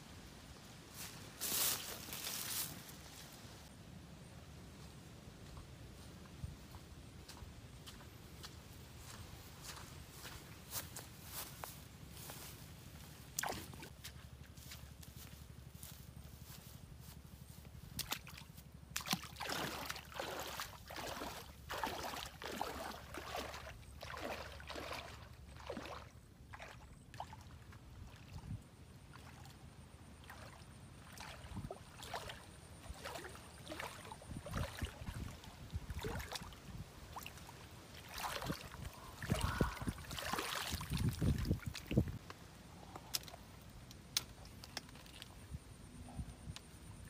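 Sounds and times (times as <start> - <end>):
wading through shallow water: 6.1 - 45.6.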